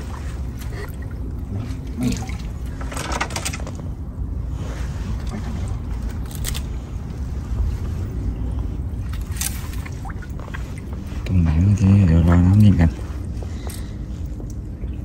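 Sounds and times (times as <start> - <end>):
low rumble: 0.0 - 15.0
seawater trickling and lapping: 0.0 - 15.0.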